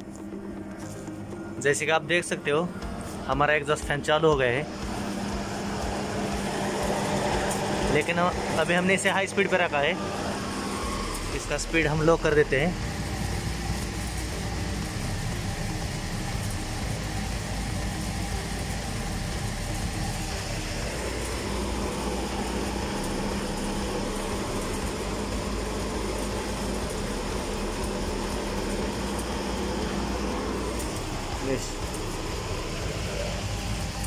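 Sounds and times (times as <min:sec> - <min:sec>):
exhaust fan rushing air: 0:00.0 - 0:34.0
steady low tone: 0:00.0 - 0:34.0.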